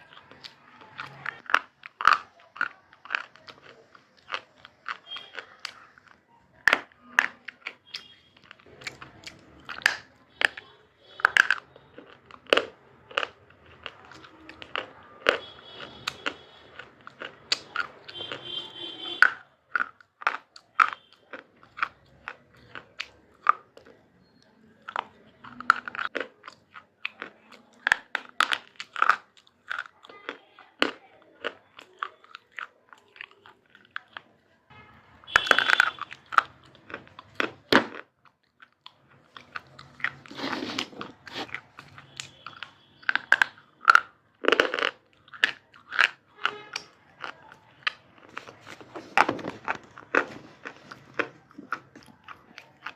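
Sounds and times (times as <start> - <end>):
sharp crunches of biting: 0.0 - 52.9
soft chewing: 0.0 - 52.9.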